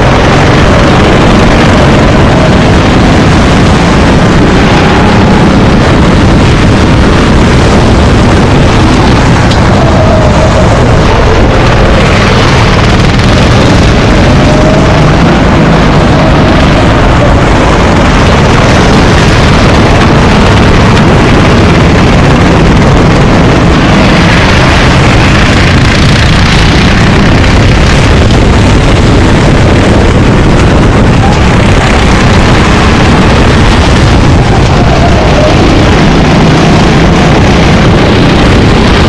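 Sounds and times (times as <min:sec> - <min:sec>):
kart engine running hard: 0:00.0 - 0:39.0
wind noise on microphone: 0:00.0 - 0:39.0.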